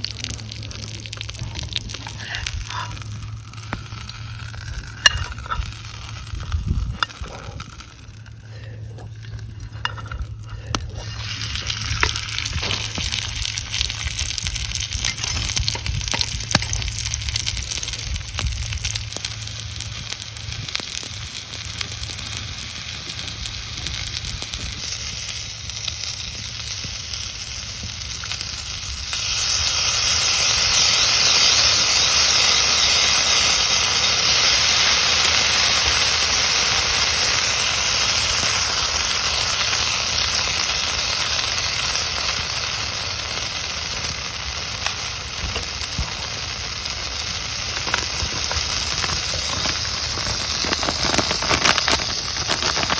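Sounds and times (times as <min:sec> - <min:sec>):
food sizzling in a pan: 0:00.0 - 0:08.4, 0:09.2 - 0:52.9.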